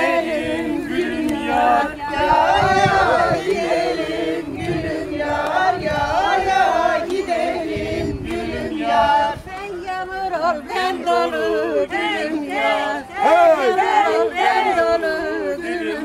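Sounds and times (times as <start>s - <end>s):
group of people singing: 0.0s - 16.0s.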